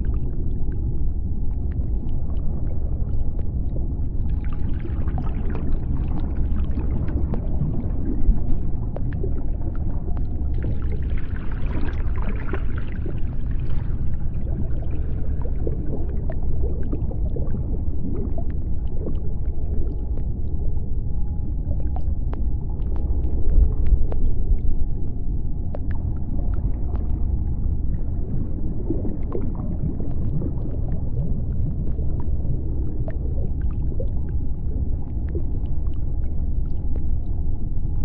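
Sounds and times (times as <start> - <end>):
deep underwater rumble: 0.0 - 38.0.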